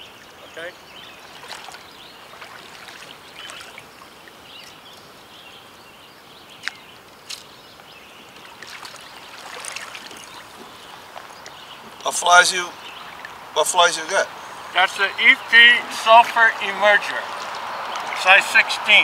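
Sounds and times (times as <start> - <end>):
river water trickling and splashing: 0.0 - 19.0.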